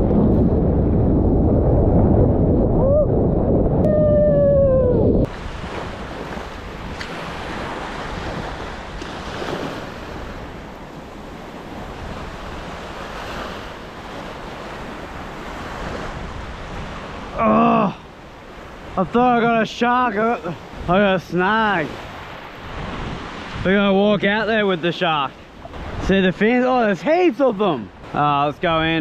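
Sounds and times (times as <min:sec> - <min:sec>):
wind buffeting microphone: 0:00.0 - 0:21.2, 0:21.8 - 0:24.5, 0:25.4 - 0:26.2
wave breaking: 0:00.0 - 0:29.0
small waves washing onto beach: 0:05.3 - 0:29.0.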